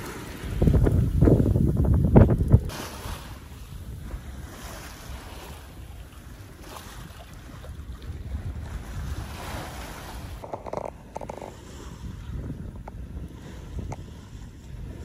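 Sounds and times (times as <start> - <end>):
water washing along hull: 0.0 - 15.0
wind rumbling on microphone: 0.0 - 15.0.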